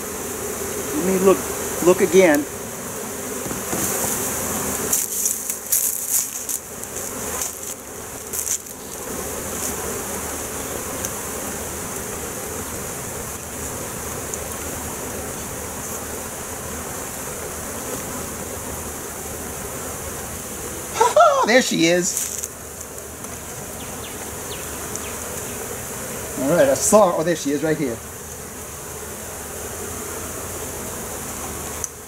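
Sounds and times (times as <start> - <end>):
honey bees buzzing: 0.0 - 32.0.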